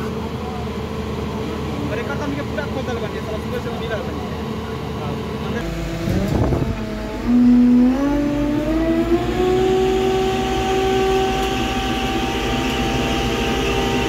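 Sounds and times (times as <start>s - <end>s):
continuous low rumble: 0.0s - 14.0s
excavator engine whining: 0.0s - 14.0s.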